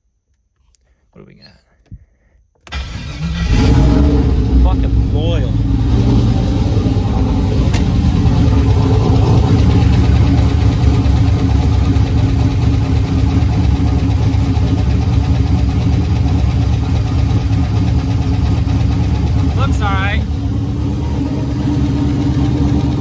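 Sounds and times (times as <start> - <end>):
car engine idling: 1.8 - 23.0.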